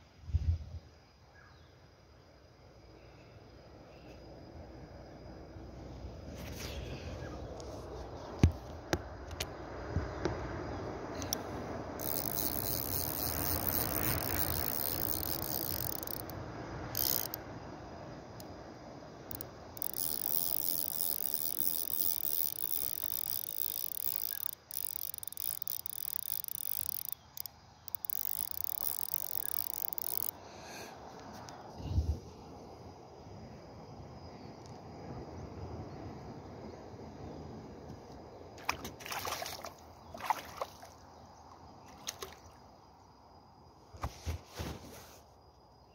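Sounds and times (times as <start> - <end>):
insects chirring: 0.0 - 45.9
soft outdoor hiss: 0.0 - 45.9.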